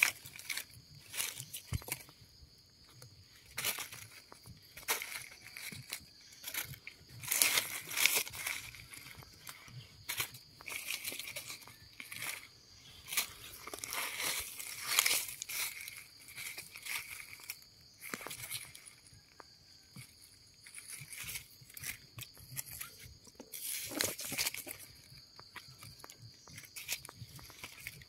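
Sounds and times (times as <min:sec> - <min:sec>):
dry leaves rustling and crackling: 0:00.0 - 0:02.1, 0:02.8 - 0:28.0
sharp crunches: 0:02.9 - 0:28.0.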